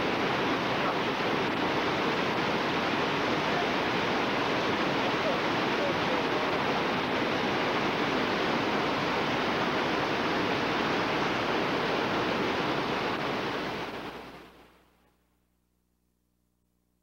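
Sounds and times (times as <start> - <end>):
whitewater roaring: 0.0 - 14.6.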